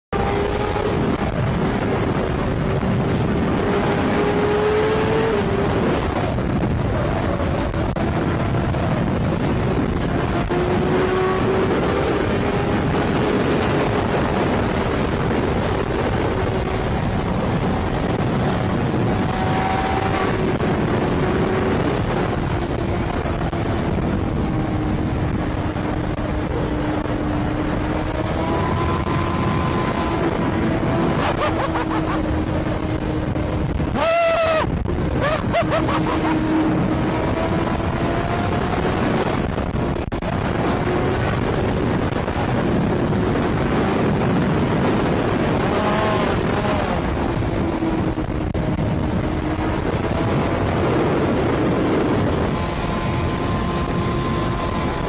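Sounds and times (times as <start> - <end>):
wind and road noise: 0.0 - 55.0
motorcycle engine hum: 0.1 - 55.0.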